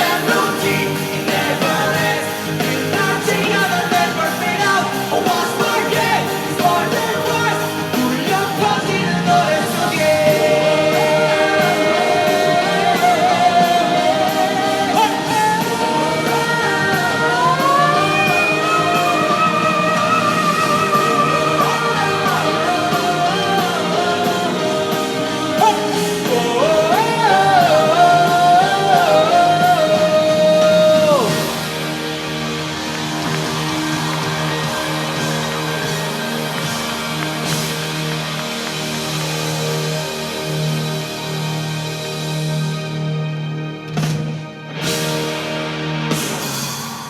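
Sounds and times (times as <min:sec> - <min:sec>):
electric guitar: 0:00.0 - 0:47.0
live rock band playing: 0:00.0 - 0:47.0.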